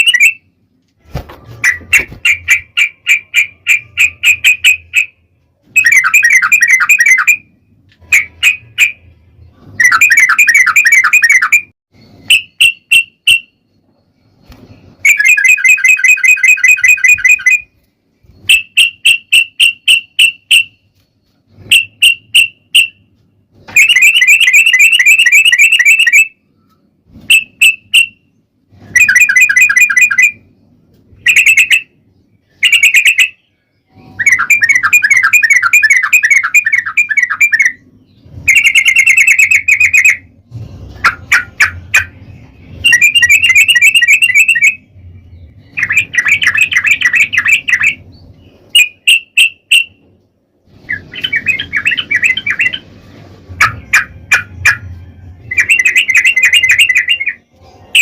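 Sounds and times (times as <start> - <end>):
bulbul chattering song: 0.0 - 0.6, 1.6 - 13.9, 14.5 - 23.0, 23.7 - 26.6, 27.3 - 50.1, 50.7 - 58.0.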